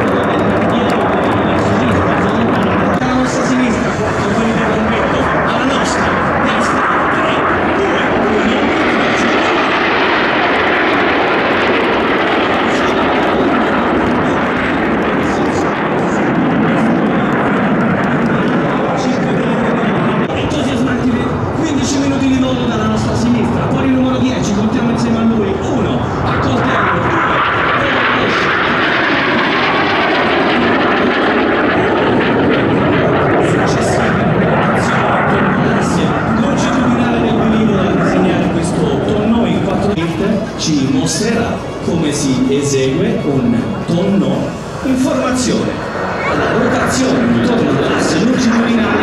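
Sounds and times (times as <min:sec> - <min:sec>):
jets flying overhead: 0:00.0 - 0:49.0.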